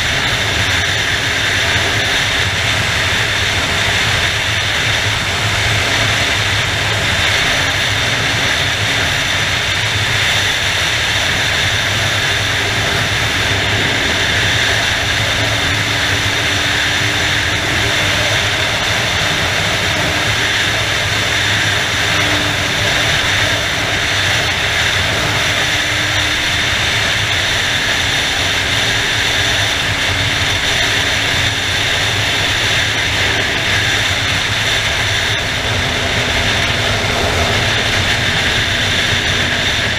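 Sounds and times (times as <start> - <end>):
motorcycle engine drone: 0.0 - 39.9
wind rushing: 0.3 - 39.9.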